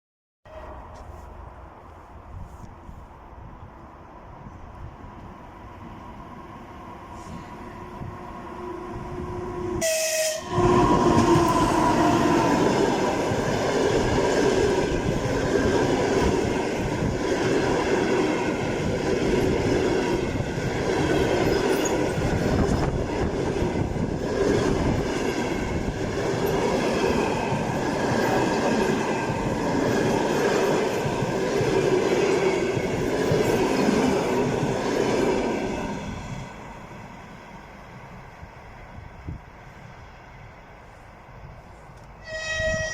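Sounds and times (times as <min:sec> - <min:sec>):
train wheels rumbling over rails: 0:01.9 - 0:38.3.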